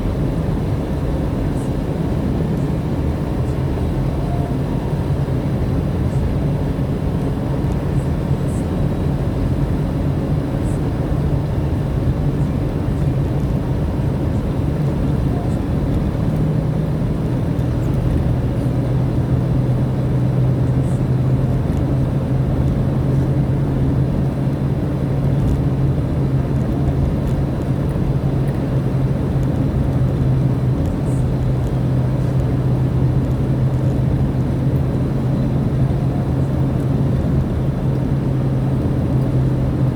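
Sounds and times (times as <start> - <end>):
car engine hum: 0.0 - 39.9
road noise inside car: 0.0 - 39.9.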